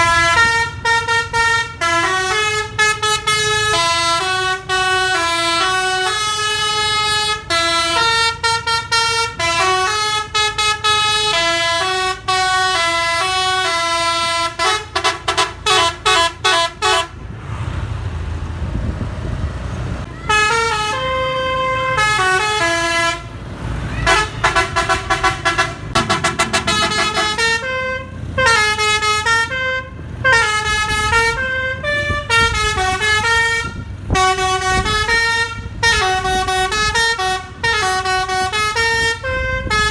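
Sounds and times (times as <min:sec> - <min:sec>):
multi-tone bus horn tune: 0:00.0 - 0:17.3, 0:20.1 - 0:39.9
low engine rumble: 0:00.0 - 0:39.9.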